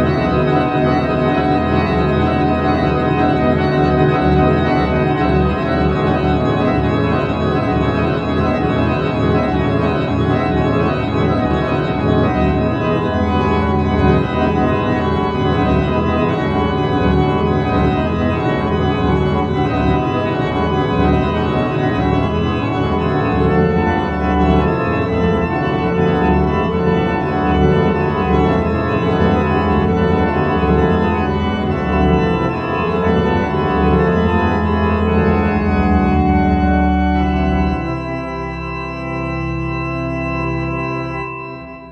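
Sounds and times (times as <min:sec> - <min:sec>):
slow organ chords: 0:00.0 - 0:41.9.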